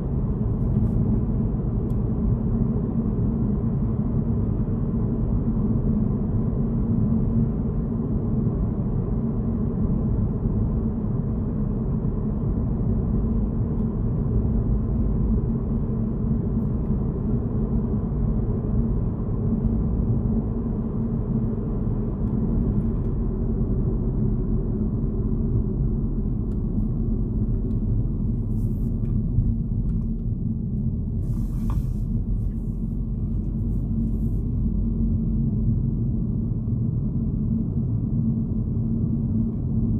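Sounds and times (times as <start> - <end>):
car driving rumble from inside: 0.0 - 39.9.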